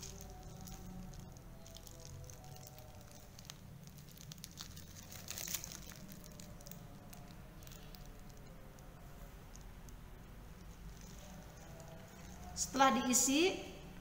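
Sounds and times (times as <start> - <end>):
plastic piping bag crinkling: 0.0 - 13.2.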